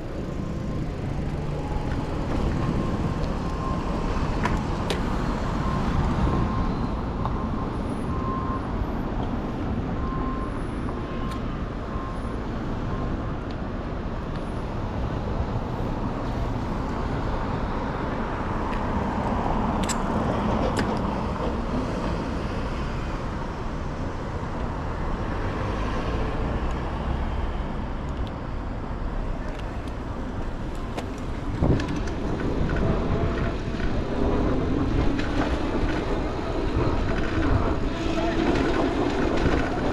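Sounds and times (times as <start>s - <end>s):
city traffic noise: 0.0s - 39.9s.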